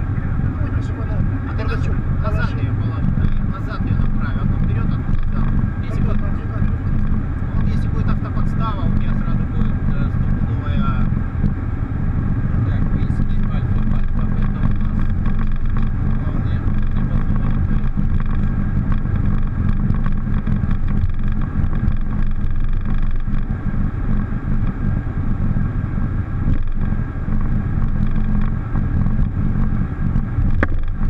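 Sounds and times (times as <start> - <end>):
jet engines and air systems drone: 0.0 - 31.0
thin steady whines: 0.0 - 31.0.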